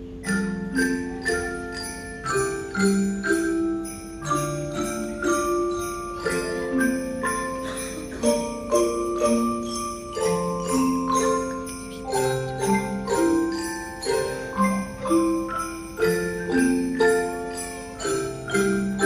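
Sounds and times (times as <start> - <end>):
handbells playing melody: 0.0 - 19.0.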